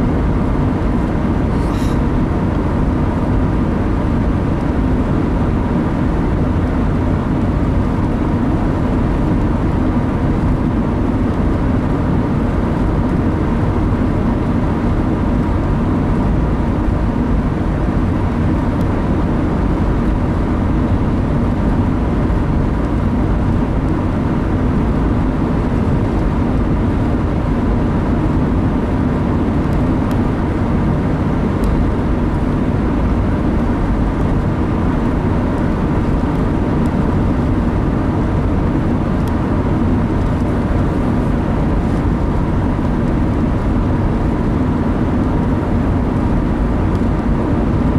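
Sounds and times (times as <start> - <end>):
car road noise from inside cabin: 0.0 - 47.9.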